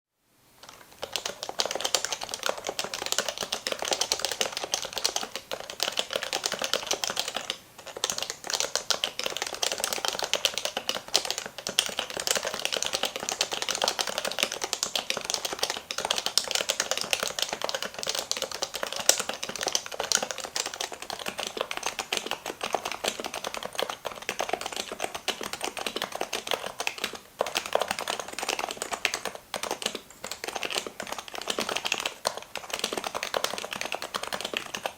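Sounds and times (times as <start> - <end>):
fast keyboard typing: 0.6 - 34.9.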